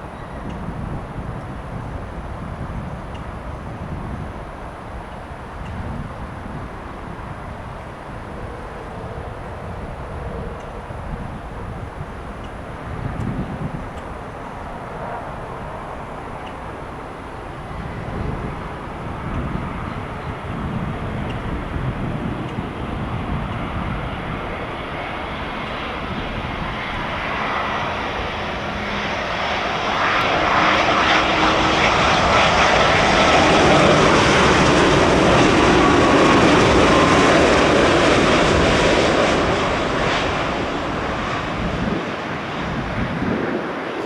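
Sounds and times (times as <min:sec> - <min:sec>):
jet engine rumble and whine: 0:00.0 - 0:44.0.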